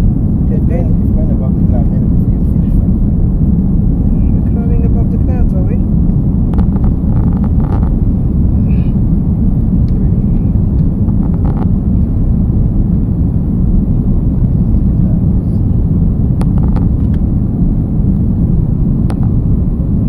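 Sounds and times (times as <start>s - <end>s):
airliner engine rumble in cabin: 0.0s - 20.0s.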